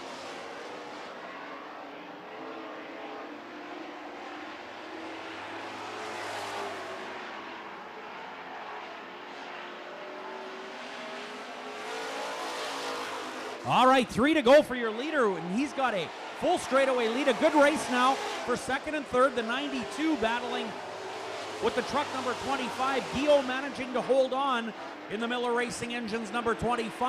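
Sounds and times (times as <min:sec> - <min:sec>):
race truck engines running: 0:00.0 - 0:27.0.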